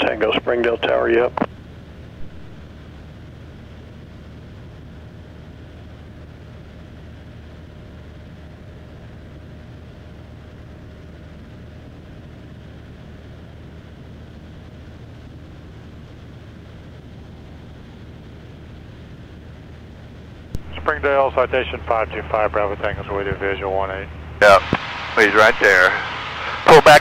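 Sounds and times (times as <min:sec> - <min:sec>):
propeller plane engine drone: 0:00.0 - 0:27.0.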